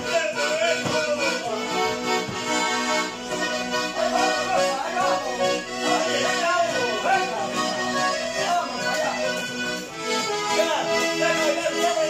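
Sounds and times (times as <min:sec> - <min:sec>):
accordion playing lively tune: 0:00.0 - 0:12.0.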